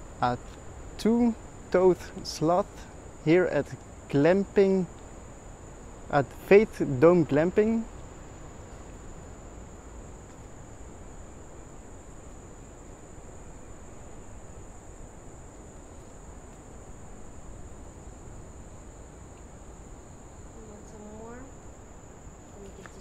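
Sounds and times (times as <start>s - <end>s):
faint background hiss: 0.0s - 23.0s
insects trilling: 0.0s - 23.0s.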